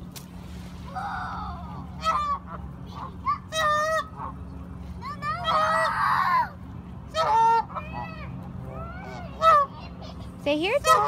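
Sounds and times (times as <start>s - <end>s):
geese honking: 2.0s - 11.0s.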